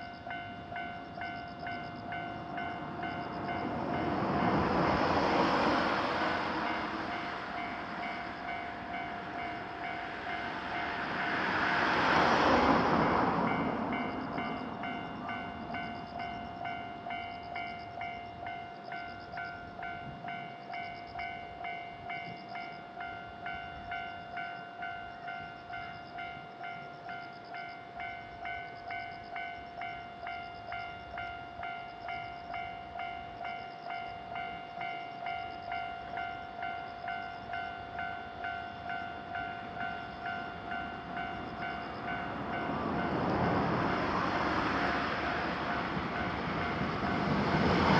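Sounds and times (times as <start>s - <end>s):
railroad crossing bell clanging: 0.0s - 47.9s
train passing: 0.0s - 47.9s.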